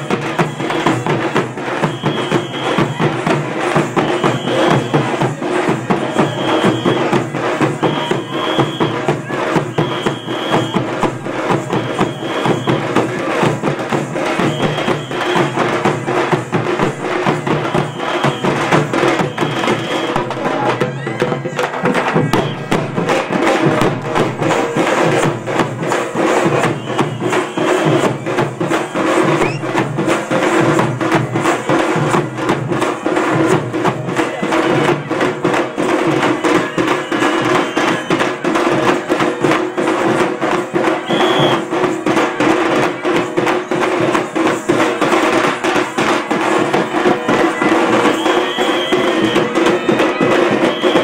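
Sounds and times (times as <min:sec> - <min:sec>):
frame drums beaten with sticks: 0:00.0 - 0:51.0.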